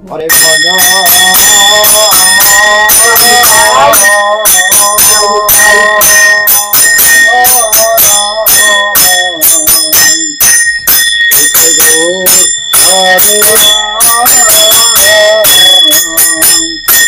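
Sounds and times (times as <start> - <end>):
voices chanting: 0.1 - 17.0
hand bell ringing rapidly: 0.3 - 17.0.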